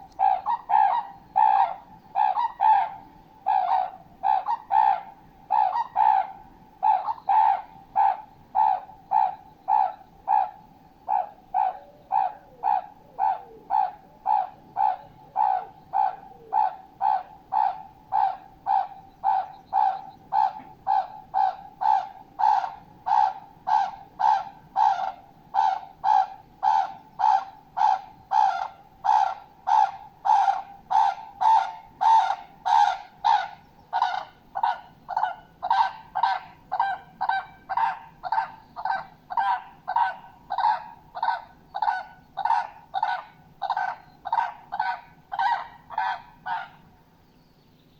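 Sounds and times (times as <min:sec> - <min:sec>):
bird trumpet-like calls: 0:00.0 - 0:46.9.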